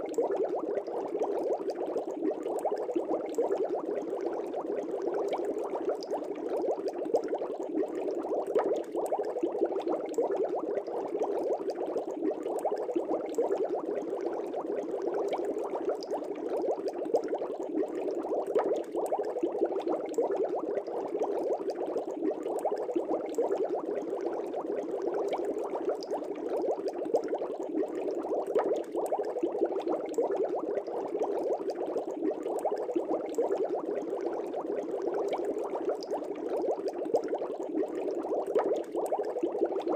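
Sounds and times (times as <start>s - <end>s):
air bubbles bubbling in water: 0.0s - 39.9s.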